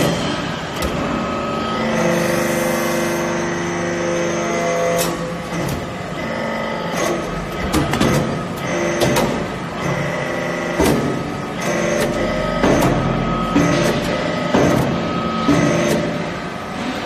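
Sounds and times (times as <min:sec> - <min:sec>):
hydraulic pump whine: 0:00.0 - 0:17.0.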